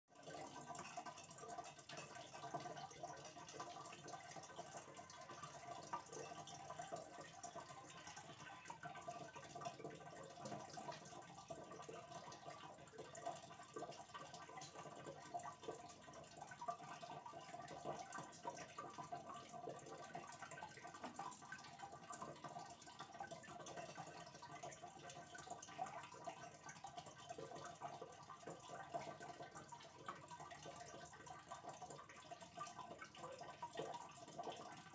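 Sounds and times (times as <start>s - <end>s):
aquarium water trickling: 0.1s - 34.9s
water drips and splashes: 0.1s - 34.9s.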